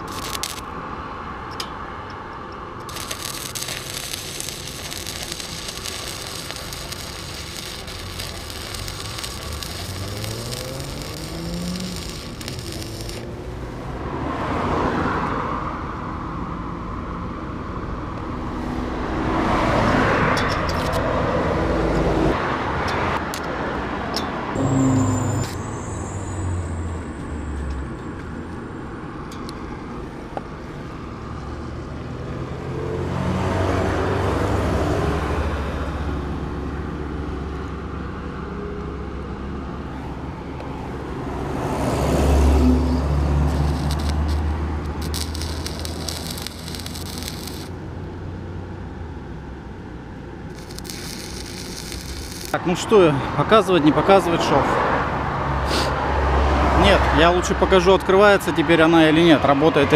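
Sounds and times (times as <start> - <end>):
vehicles passing by: 0.0 - 59.9.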